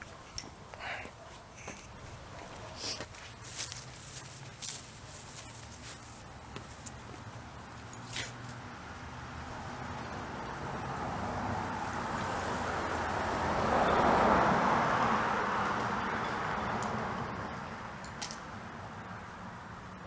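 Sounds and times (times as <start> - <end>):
vehicle passing by: 3.4 - 20.0.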